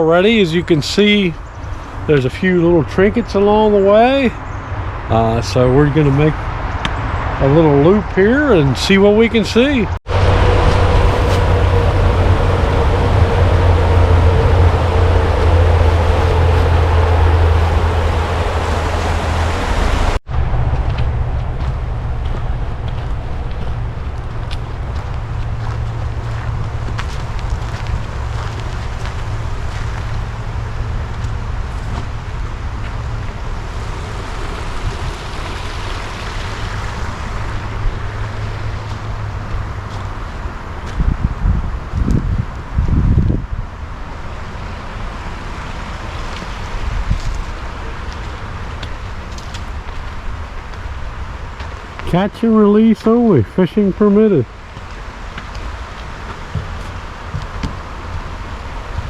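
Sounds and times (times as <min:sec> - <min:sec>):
road traffic noise: 0:00.0 - 0:59.0
wind buffeting microphone: 0:01.4 - 0:52.2
low engine hum: 0:09.8 - 0:59.0.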